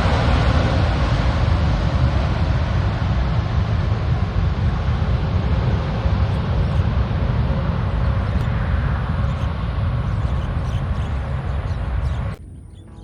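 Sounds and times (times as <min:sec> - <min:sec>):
faint steady whine: 0:00.0 - 0:13.0
jet engine rumble and hiss: 0:00.0 - 0:13.0.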